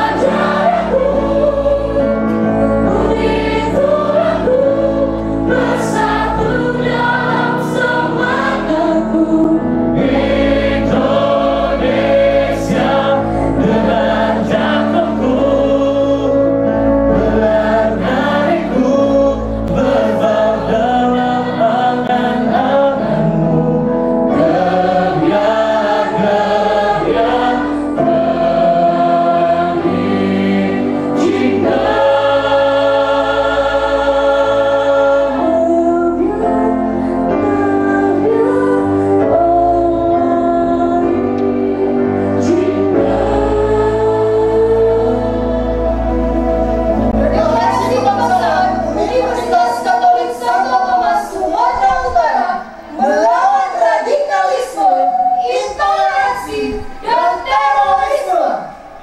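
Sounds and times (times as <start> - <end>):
choir and crowd singing: 0.0 - 59.0.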